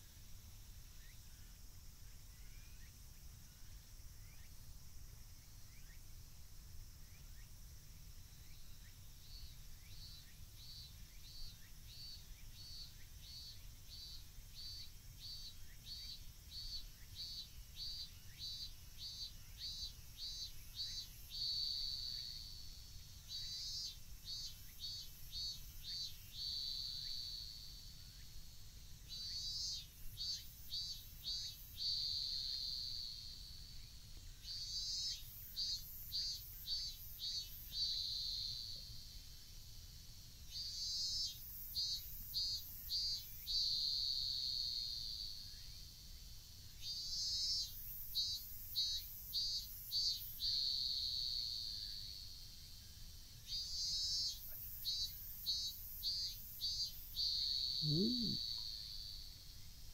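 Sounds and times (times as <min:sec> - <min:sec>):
cicada singing: 0:08.4 - 0:59.9.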